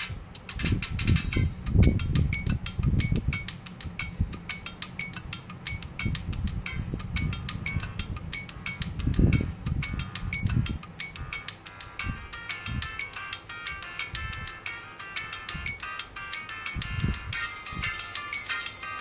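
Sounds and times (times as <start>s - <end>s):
ringtone of clicks and ticks: 0.0s - 19.0s.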